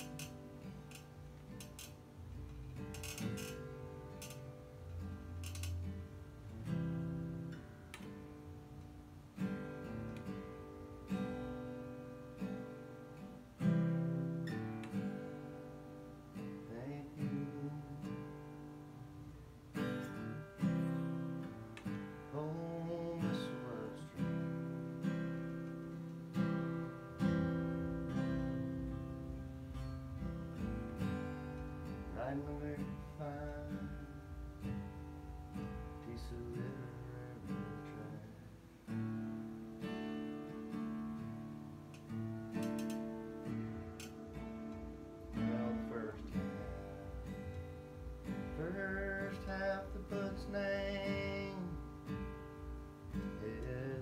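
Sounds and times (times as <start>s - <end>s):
acoustic guitar: 0.0s - 54.0s.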